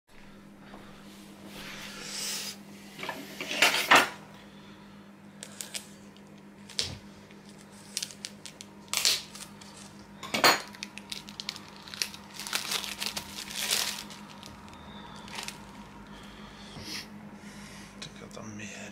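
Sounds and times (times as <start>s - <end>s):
faint low hum: 0.2s - 18.9s.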